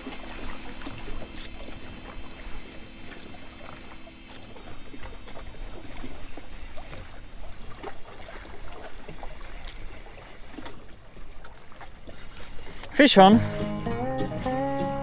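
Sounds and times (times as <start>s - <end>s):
waves lapping against rocks: 0.0s - 14.0s.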